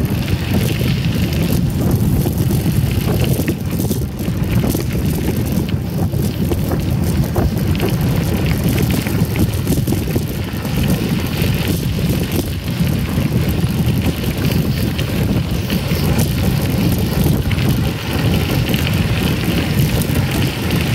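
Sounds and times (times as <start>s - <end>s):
bike rattles and clicks: 0.0s - 20.9s
bike tyres rumbling on trail: 0.0s - 20.9s
wind buffeting microphone: 0.0s - 20.9s.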